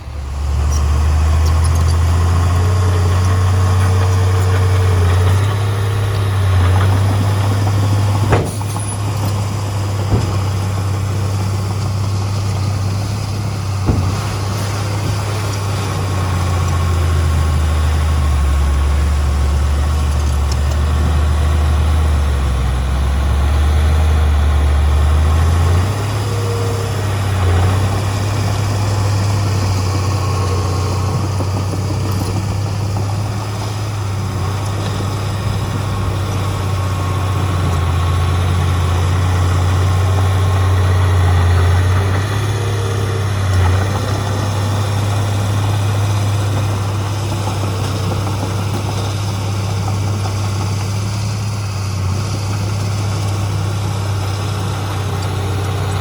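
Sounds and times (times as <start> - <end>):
diesel machinery engine running: 0.0 - 56.0.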